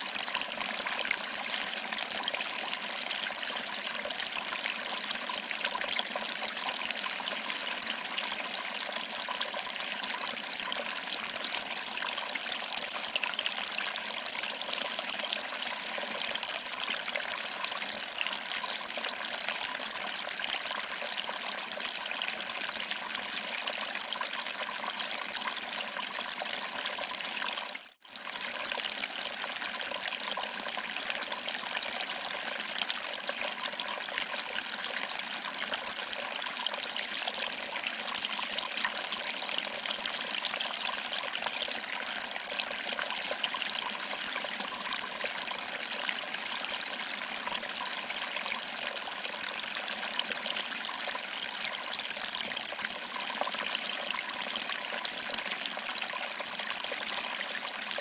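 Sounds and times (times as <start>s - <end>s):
water trickling over rocks: 0.0s - 58.0s.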